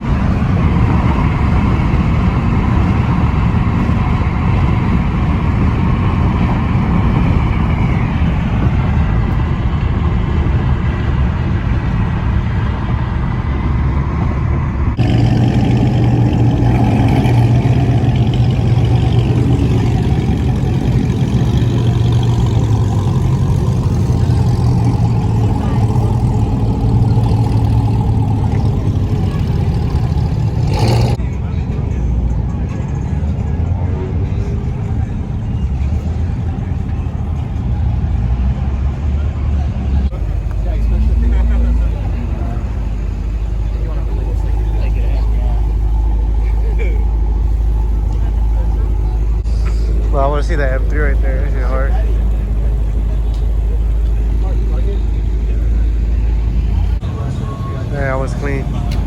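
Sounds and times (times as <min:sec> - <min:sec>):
car engine running: 0:00.0 - 0:31.4, 0:39.8 - 0:59.0.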